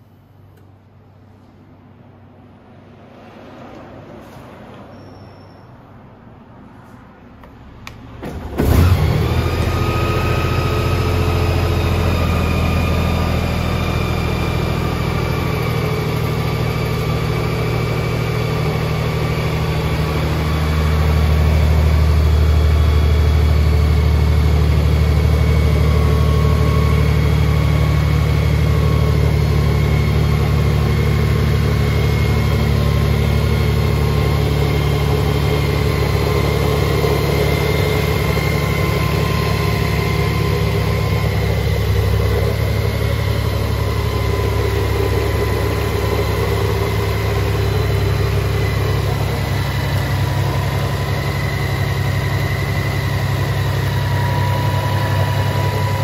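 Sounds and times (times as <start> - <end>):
motorcycle engine starting and idling: 6.8 - 56.0.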